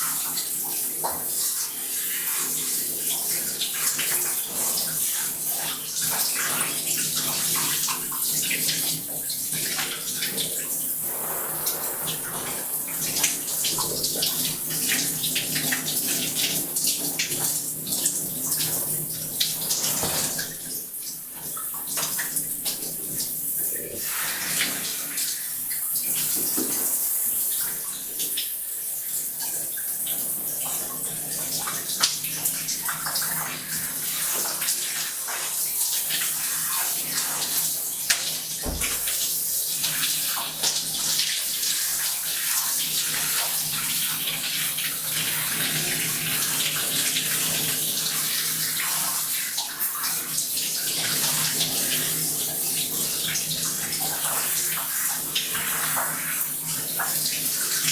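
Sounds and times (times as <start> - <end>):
shower water into bathtub: 0.0 - 57.9.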